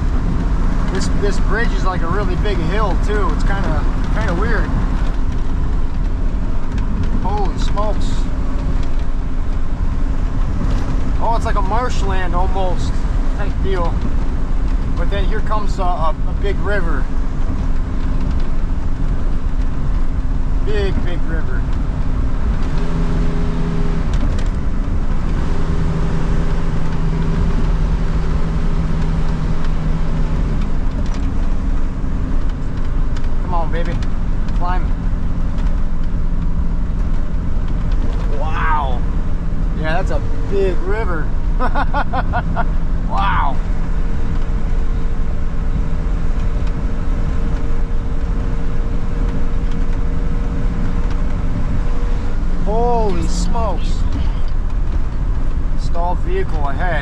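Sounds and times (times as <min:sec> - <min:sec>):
road and tyre rumble: 0:00.0 - 0:57.0
vehicle engine humming: 0:00.0 - 0:57.0.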